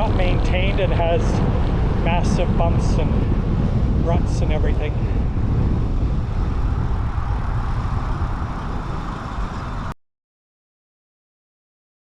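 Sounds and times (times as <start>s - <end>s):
road traffic: 0.0s - 10.0s
wind and road noise: 0.0s - 10.0s.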